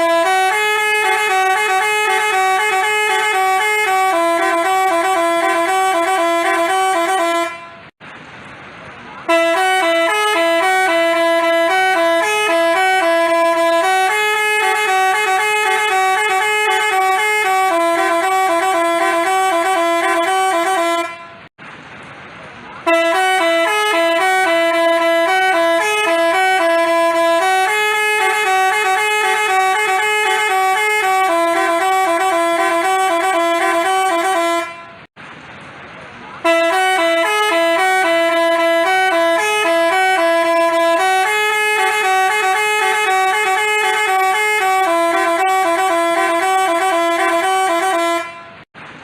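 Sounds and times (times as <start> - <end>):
multi-tone horn playing a tune: 0.0 - 8.0, 9.3 - 21.5, 22.8 - 35.1, 36.4 - 48.7.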